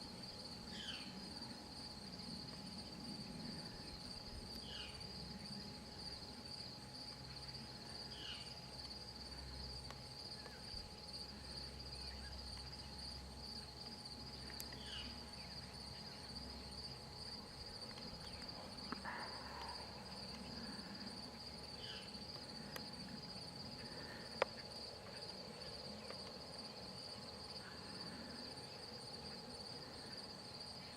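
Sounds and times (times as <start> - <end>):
crickets chirring: 0.0 - 30.9
faint low hum: 0.0 - 30.9.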